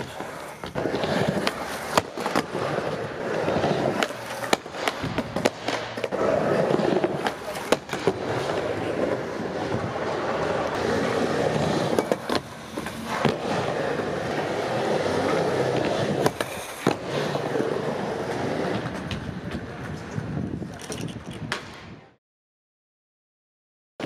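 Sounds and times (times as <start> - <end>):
skateboard clacking on ground: 0.0 - 22.0
skateboard wheels rolling on concrete: 0.0 - 22.2.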